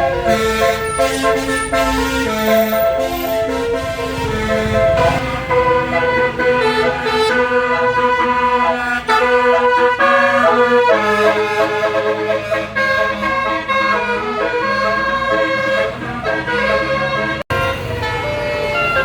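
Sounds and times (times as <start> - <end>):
musical air horn melody: 0.0 - 19.0
vehicle engine rumble: 0.0 - 19.0.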